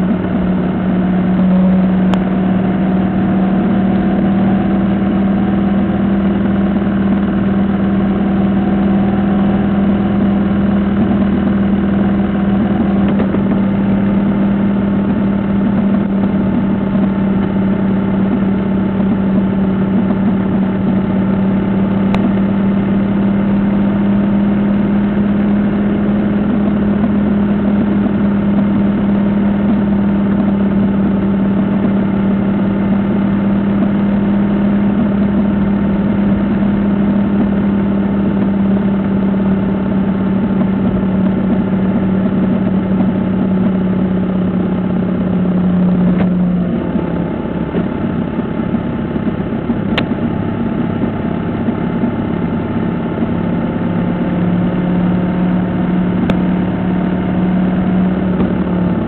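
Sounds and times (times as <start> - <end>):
vehicle engine and road noise: 0.0 - 59.0.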